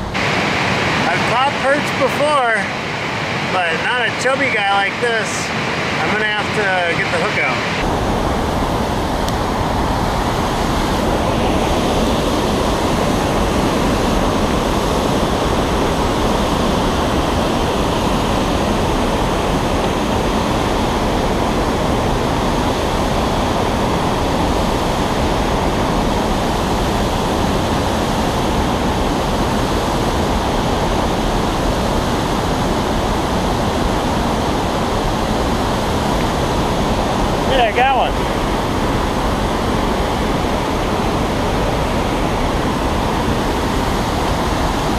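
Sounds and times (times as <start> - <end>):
river rapids rushing over rocks: 0.0 - 44.9.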